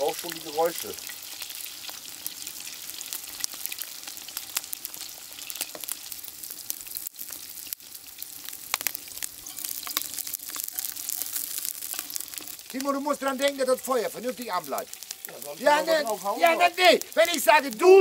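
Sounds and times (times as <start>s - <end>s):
meatballs sizzling in hot fat: 0.0s - 18.0s.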